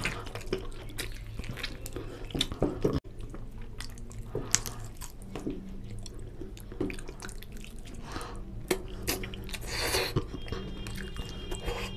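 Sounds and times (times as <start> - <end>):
wet chewing sounds: 0.0 - 11.9.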